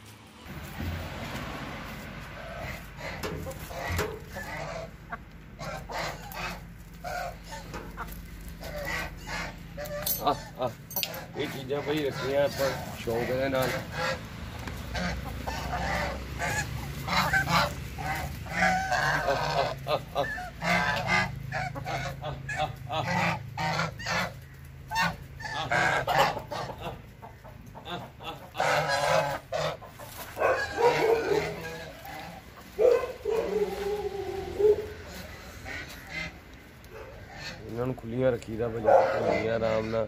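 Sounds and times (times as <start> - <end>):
geese honking: 0.5 - 40.0.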